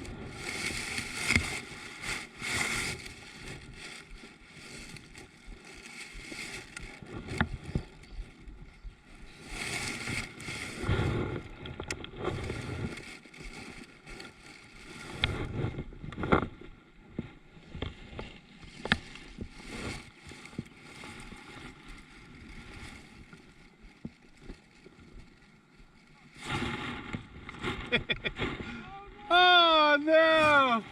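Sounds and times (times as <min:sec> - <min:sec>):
water sloshing around kayak: 0:00.0 - 0:30.9.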